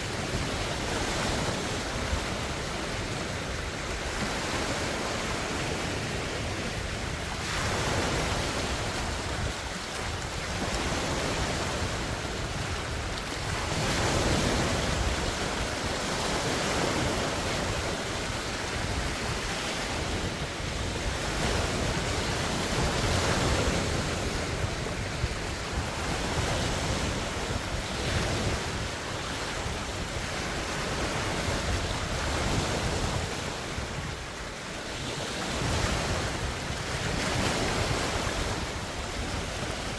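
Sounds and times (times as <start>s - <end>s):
lake waves splashing: 0.0s - 39.9s
wind rumbling on microphone: 0.0s - 39.9s.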